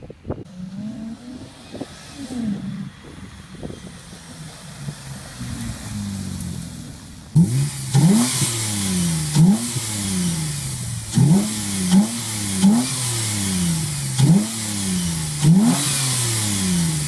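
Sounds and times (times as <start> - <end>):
engine revving: 0.5 - 17.0.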